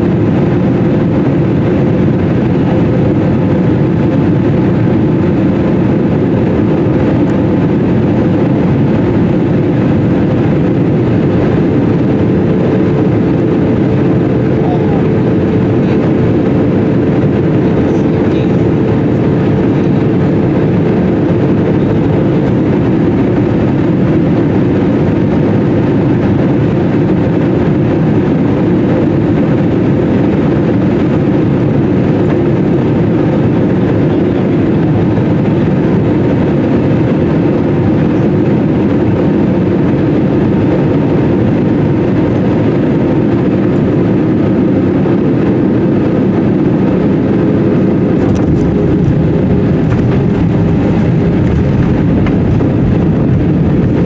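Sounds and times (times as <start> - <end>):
airflow past airframe: 0.0 - 54.0
airplane engines: 0.0 - 54.0.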